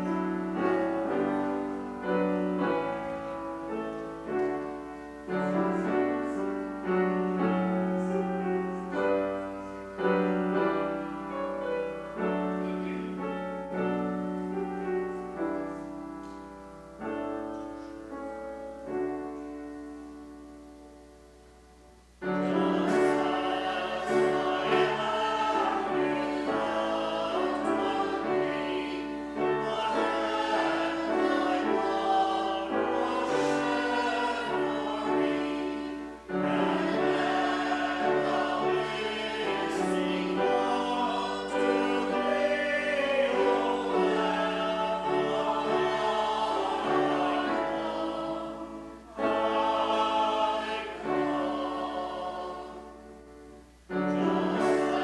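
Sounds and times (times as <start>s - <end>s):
congregation singing a hymn: 0.0s - 55.0s
keyboard accompaniment: 0.0s - 55.0s.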